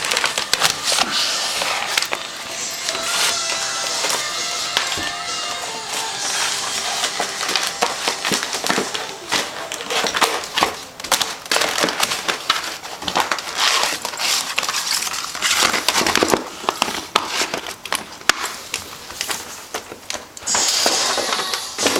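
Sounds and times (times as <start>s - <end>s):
puppy chewing hard plastic: 0.0s - 21.9s.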